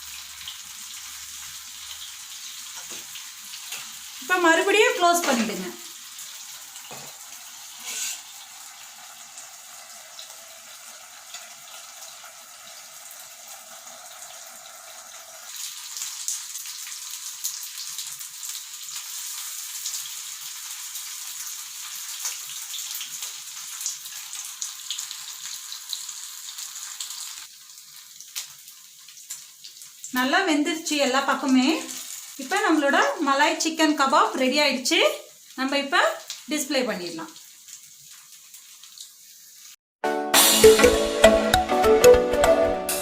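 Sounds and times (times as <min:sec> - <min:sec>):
meat sizzling in oil: 0:00.0 - 0:39.8.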